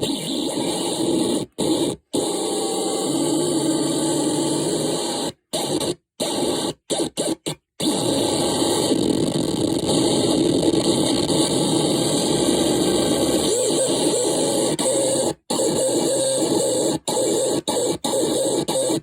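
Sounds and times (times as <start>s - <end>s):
harsh electronic noise: 0.0s - 19.0s.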